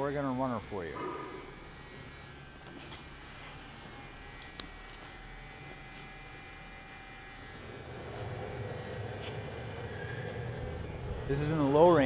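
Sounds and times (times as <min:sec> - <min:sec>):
lathe motor droning: 0:00.0 - 0:12.0.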